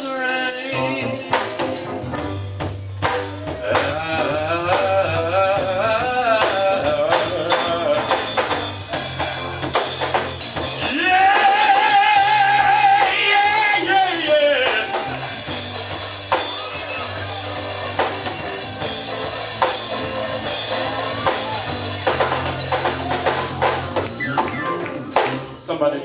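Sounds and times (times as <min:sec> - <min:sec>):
tambourine and drum hits: 0:00.0 - 0:25.6
church band music: 0:00.0 - 0:26.0.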